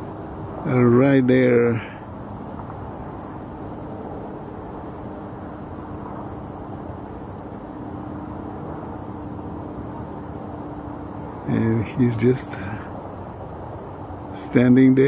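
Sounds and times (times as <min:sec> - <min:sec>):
faint low hum: 0:00.0 - 0:15.0
insect chirping: 0:00.0 - 0:15.0
outdoor background noise: 0:00.0 - 0:15.0.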